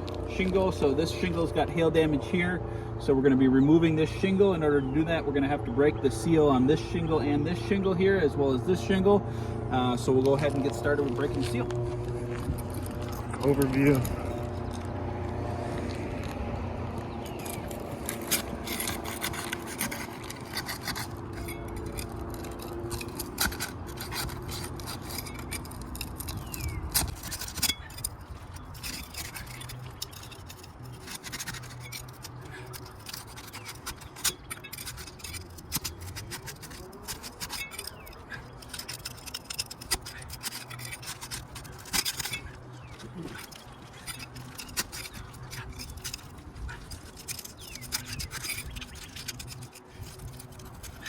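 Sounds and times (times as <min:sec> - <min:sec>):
steady low hum: 0:00.0 - 0:51.0
tool scraping shingles: 0:00.0 - 0:51.0.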